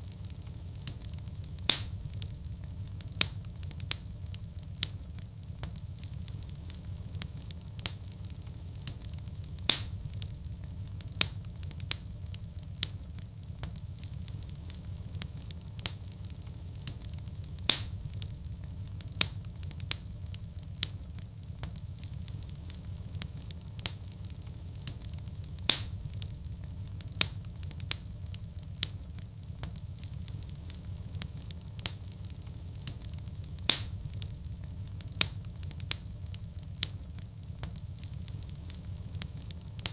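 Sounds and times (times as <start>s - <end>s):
fire crackling and popping: 0.0s - 39.9s
low rumble of burning: 0.0s - 39.9s.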